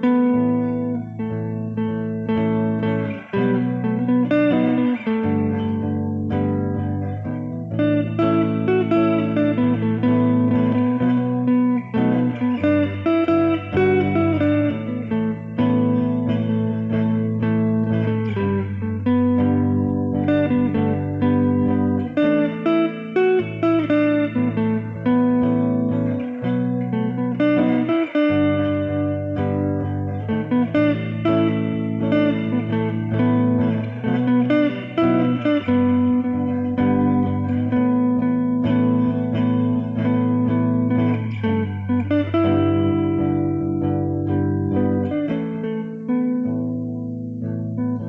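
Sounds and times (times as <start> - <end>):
solo guitar playing: 0.0 - 48.0.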